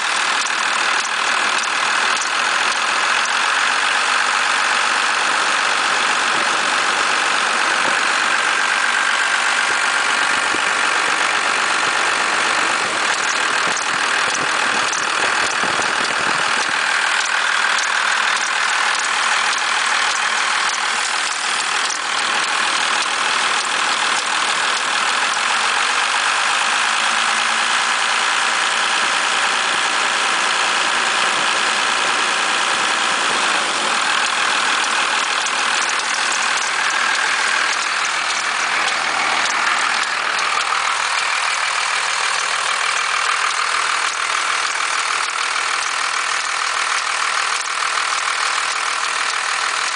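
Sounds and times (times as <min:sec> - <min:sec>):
diesel engine idling: 0:00.0 - 0:49.9
odd engine noise at idle: 0:00.0 - 0:49.9.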